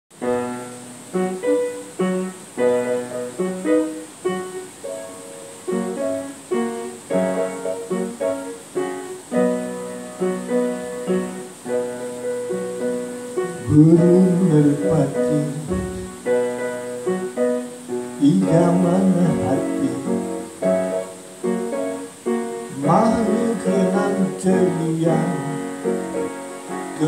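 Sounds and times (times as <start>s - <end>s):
piano playing: 0.1s - 27.0s.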